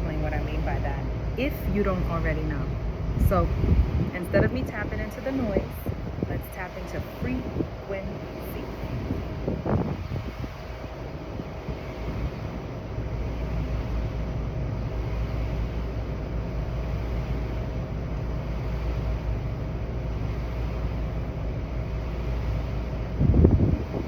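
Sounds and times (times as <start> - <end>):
faint hum: 0.0 - 24.0
low rumble: 0.0 - 24.0.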